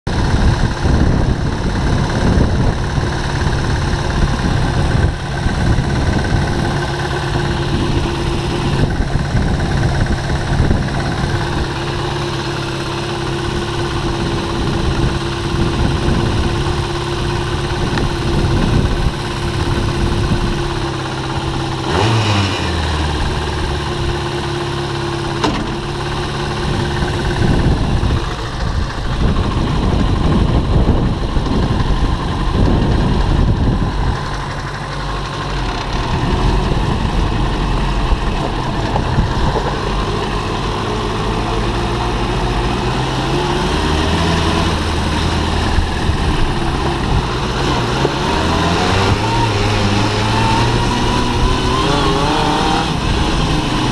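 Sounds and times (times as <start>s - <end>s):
motorcycle engine idling: 0.1s - 53.9s.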